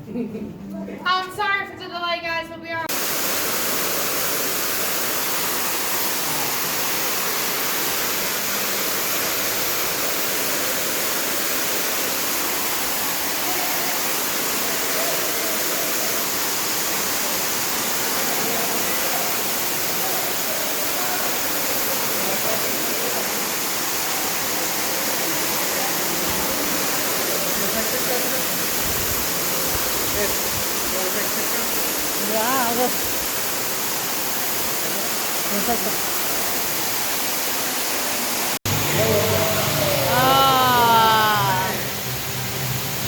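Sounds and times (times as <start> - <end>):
waterfall rushing: 2.9 - 43.0.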